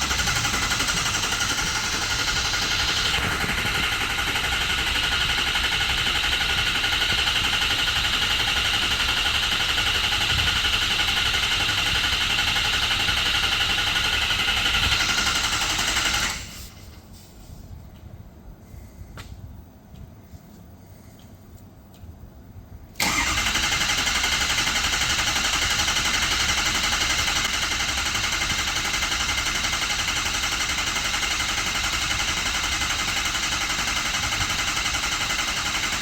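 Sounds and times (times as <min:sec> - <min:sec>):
diesel engine clattering: 0:00.0 - 0:17.0, 0:23.0 - 0:36.0.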